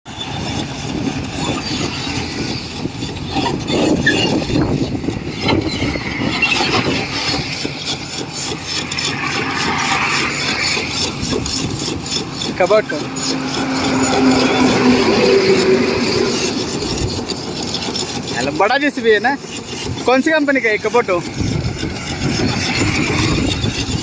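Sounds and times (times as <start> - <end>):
excavator diesel engine running: 0.1 - 24.0.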